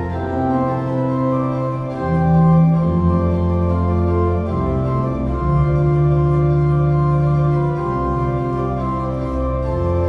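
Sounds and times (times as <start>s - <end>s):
pipe organ chords: 0.0s - 10.0s.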